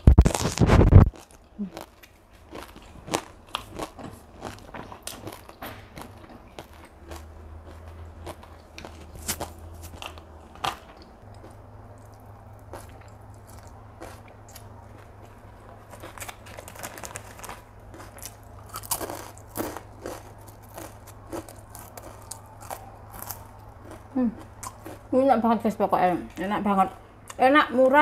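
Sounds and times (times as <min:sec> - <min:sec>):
person chewing noodles: 0:00.3 - 0:25.1.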